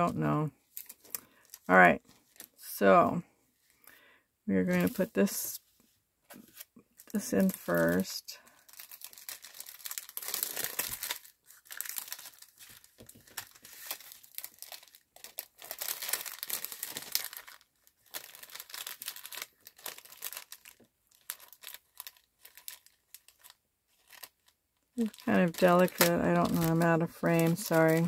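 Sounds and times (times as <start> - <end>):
plastic bag crinkling: 0.6 - 2.8, 6.3 - 28.0.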